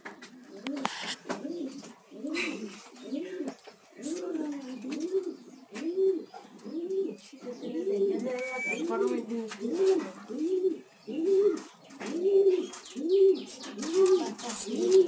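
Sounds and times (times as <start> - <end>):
pigeon cooing: 0.1 - 15.0.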